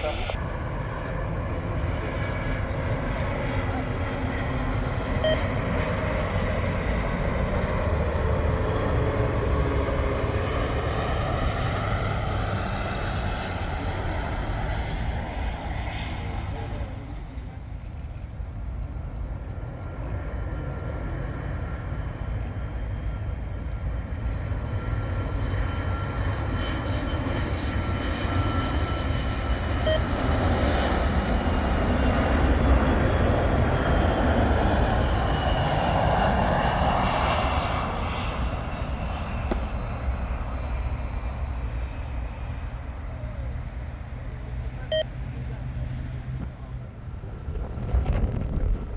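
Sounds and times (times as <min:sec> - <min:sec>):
faint whining tones: 0:00.0 - 0:21.6, 0:28.2 - 0:48.9
jet engines rumbling: 0:00.0 - 0:48.9.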